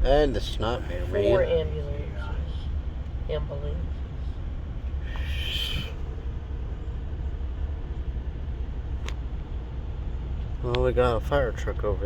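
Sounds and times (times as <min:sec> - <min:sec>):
car cabin engine and road rumble: 0:00.0 - 0:12.0.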